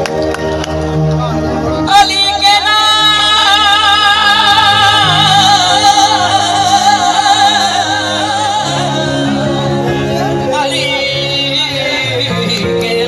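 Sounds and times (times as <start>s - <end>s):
sustained instrumental backing: 0.0s - 13.0s
person singing with vibrato: 1.8s - 13.0s.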